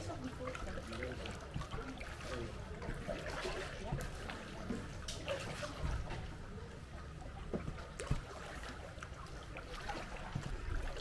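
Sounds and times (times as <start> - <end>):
paddle dipping and water splashing: 0.0 - 11.0.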